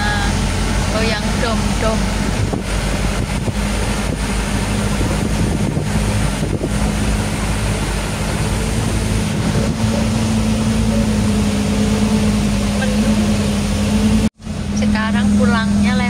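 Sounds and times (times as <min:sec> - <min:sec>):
rumbling road noise: 0:00.0 - 0:16.0
truck engine hum: 0:00.0 - 0:16.0.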